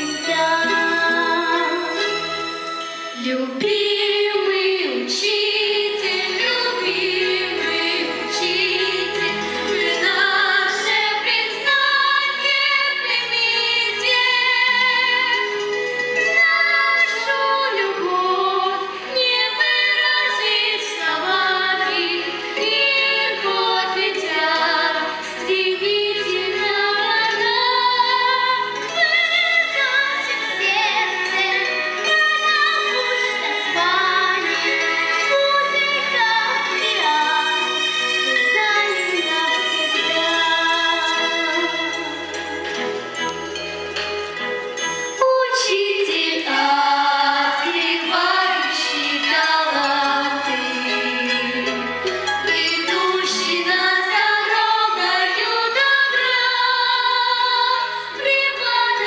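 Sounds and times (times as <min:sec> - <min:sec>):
instrumental accompaniment: 0:00.0 - 0:58.9
children singing: 0:03.2 - 0:15.6, 0:16.2 - 0:42.5, 0:45.3 - 0:59.0.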